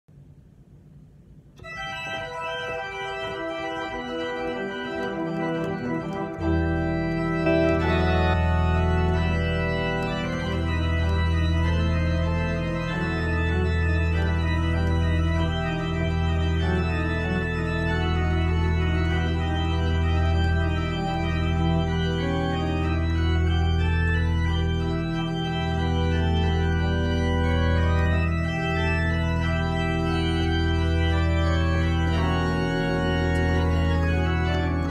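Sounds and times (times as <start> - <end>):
church organ chords: 1.6 - 34.9
organ pedal bass notes: 1.6 - 34.9.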